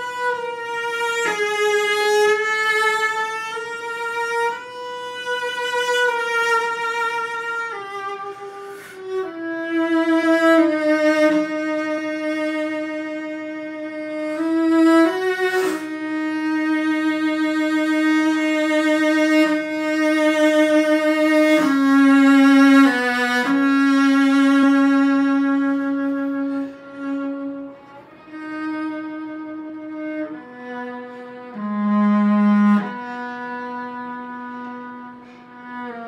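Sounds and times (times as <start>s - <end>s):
bowed cello melody: 0.0s - 36.0s.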